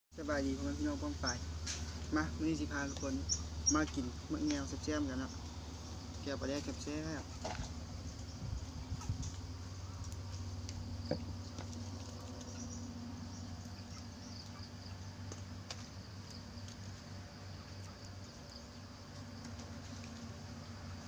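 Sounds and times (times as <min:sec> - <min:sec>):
insects chirping: 0:00.2 - 0:21.0.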